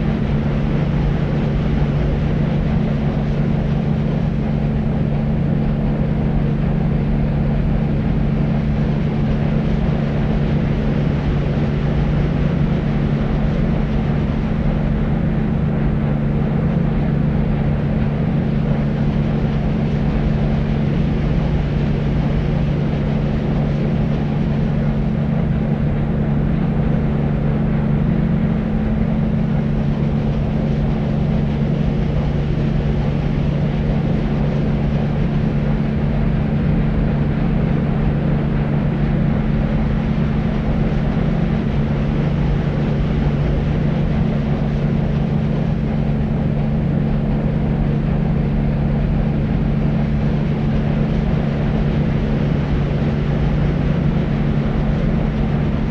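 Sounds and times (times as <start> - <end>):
deep rumbling white noise: 0.0 - 55.9
steady low hum: 0.0 - 55.9.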